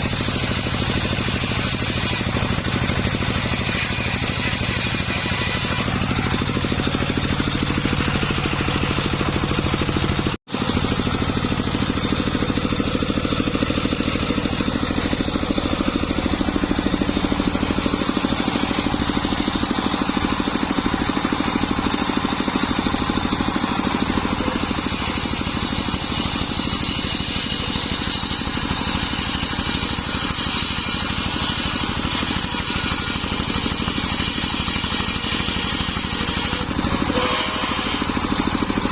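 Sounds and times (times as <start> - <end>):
circular saw cutting wood: 0.0 - 38.9.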